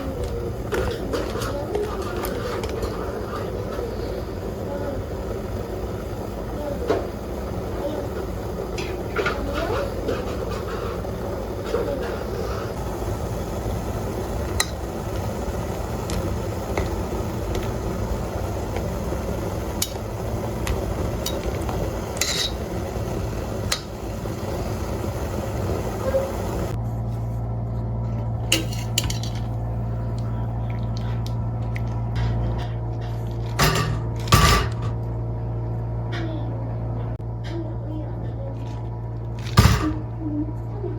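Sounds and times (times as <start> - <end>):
low hum: 0.0 - 40.9.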